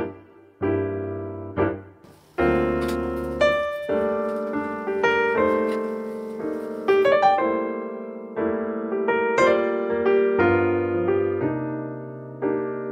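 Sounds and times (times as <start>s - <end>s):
gentle piano music: 0.0s - 12.9s.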